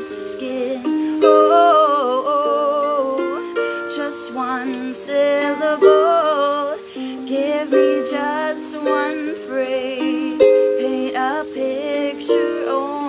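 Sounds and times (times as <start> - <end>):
harp plucked notes: 0.0 - 13.0
woman singing with vibrato: 0.0 - 13.0.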